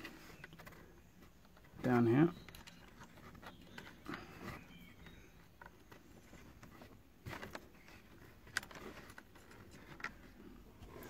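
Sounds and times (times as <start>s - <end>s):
rustling and scraping behind trim: 0.0s - 11.0s.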